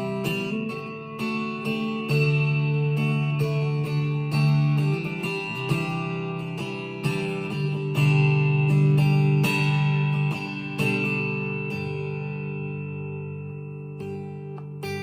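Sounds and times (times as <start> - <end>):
clean electric guitar fingerstyle: 0.0 - 15.0.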